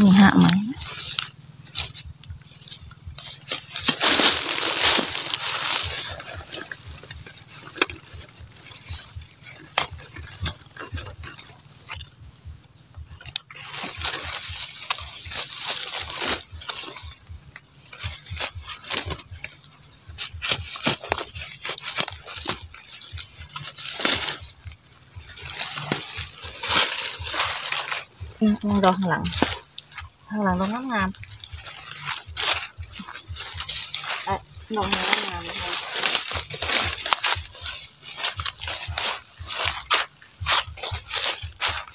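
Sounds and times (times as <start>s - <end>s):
trowel scraping in dry soil: 0.0s - 41.9s.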